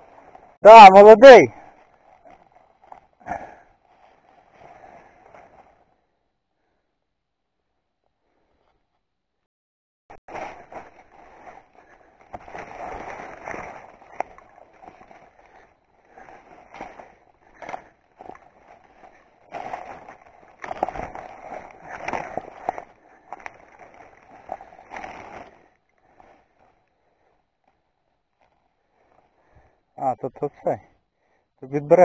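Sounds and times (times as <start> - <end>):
rustling of undergrowth: 0.0 - 6.8, 10.3 - 31.8.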